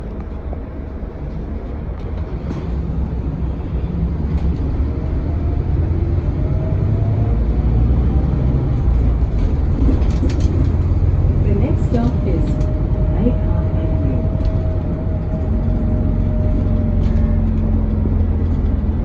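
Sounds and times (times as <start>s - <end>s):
bus engine accelerating: 0.0s - 19.0s.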